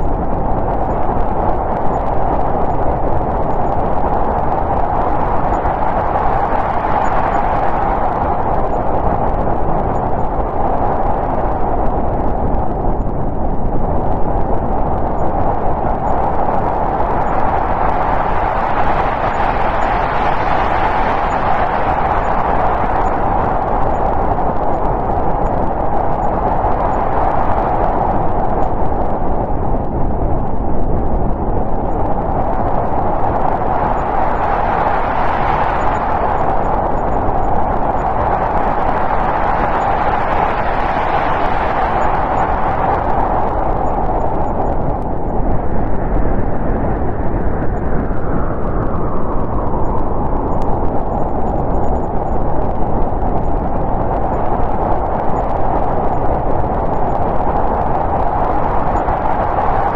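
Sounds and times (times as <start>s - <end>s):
snowstorm wind blowing: 0.0s - 59.9s.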